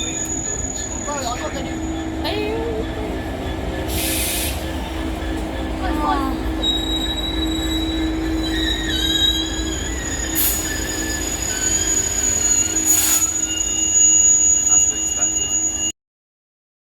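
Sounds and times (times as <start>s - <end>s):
train wheels squealing: 0.0s - 16.0s.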